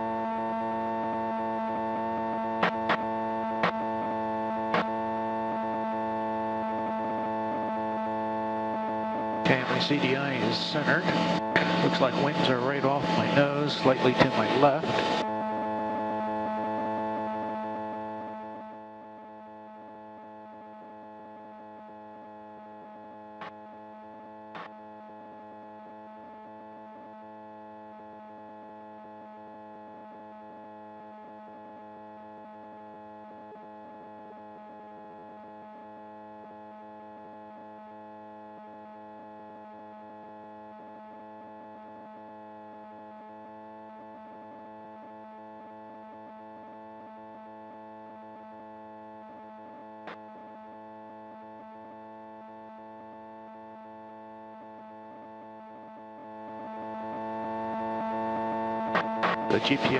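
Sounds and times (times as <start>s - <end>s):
light aircraft engine and propeller drone: 1.1s - 59.9s.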